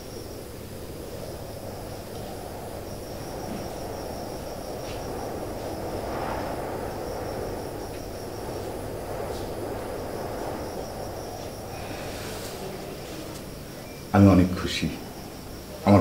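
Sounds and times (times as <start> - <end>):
insect trill: 0.0 - 16.0
low background rumble: 0.0 - 16.0.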